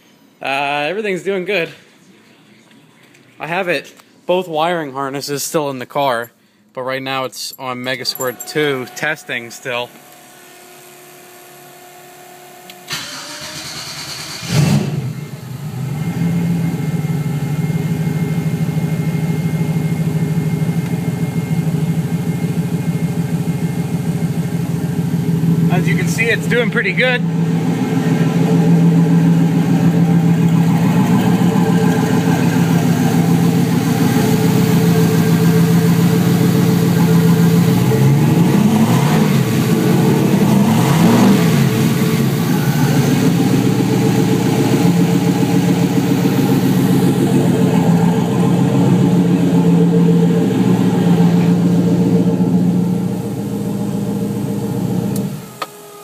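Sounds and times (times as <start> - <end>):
car engine idling and revving: 10.0 - 56.0.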